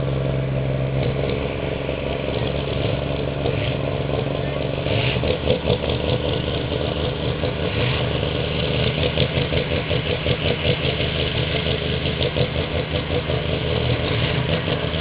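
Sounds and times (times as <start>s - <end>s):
tractor engine running roughly: 0.0s - 15.0s.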